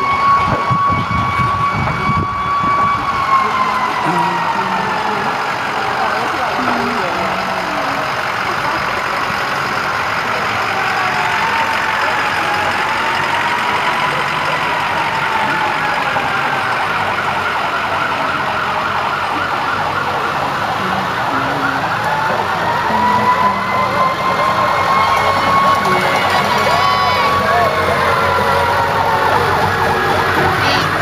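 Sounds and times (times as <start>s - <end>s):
siren wailing: 0.0s - 31.0s
pickup truck engine running: 0.9s - 31.0s.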